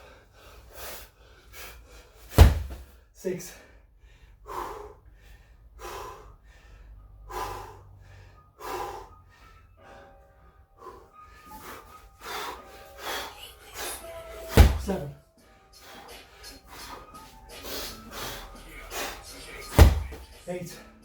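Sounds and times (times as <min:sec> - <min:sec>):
man breathing hard: 0:00.0 - 0:21.0.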